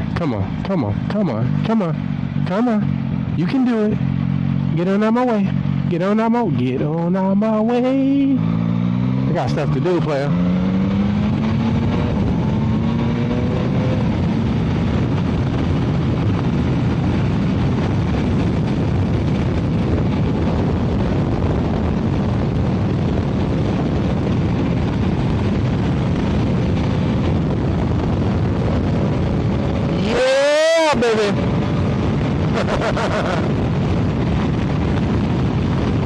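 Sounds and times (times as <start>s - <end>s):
motorcycle engine accelerating: 0.0s - 36.0s
wind rush over microphone: 0.0s - 36.0s.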